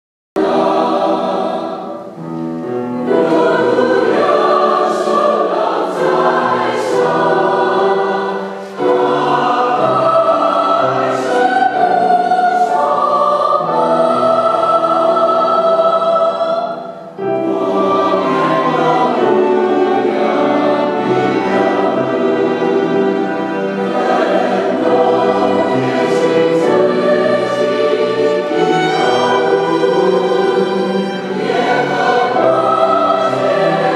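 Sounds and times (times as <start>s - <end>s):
violins and cellos: 0.4s - 16.6s, 17.2s - 33.9s
church choir singing: 0.4s - 33.9s.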